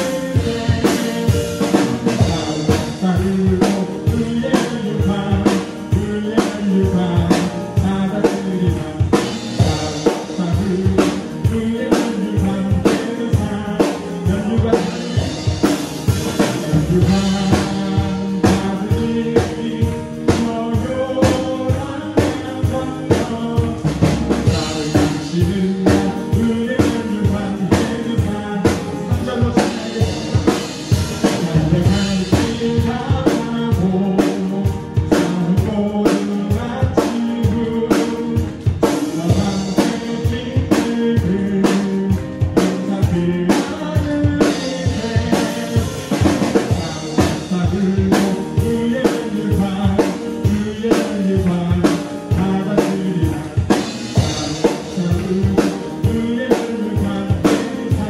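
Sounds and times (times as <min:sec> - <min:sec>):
drum kit playing a beat: 0:00.0 - 0:58.0
worship song singing: 0:00.0 - 0:58.0.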